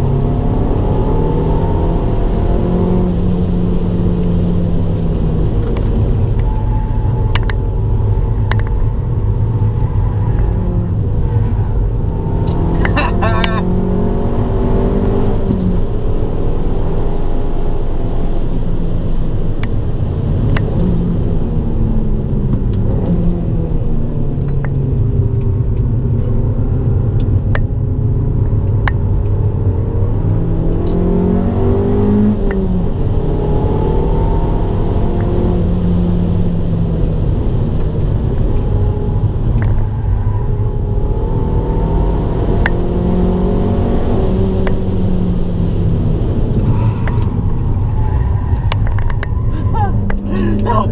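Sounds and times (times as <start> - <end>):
car engine accelerating and lifting off: 0.0 - 50.9.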